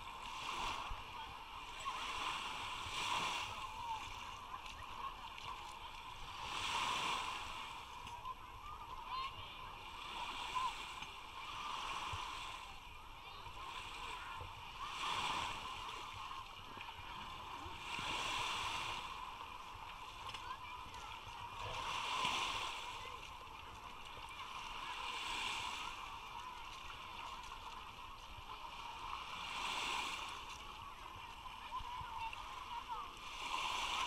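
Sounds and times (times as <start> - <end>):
hubbub of voices: 0.0 - 34.0
small waves washing onto shore: 0.0 - 34.0.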